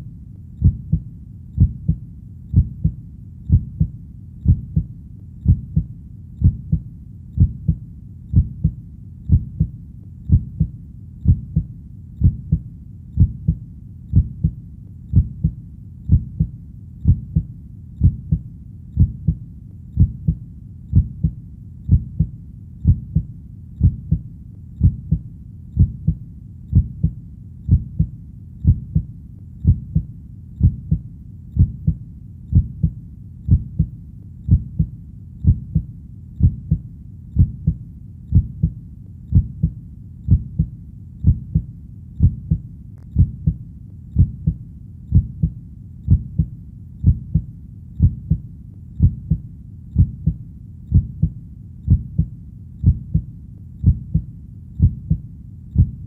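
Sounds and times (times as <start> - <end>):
heartbeat thumping: 0.6 - 56.0.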